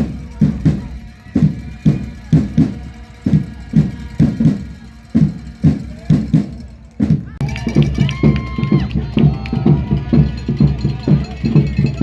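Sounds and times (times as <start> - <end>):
large drum beaten: 0.0 - 12.0.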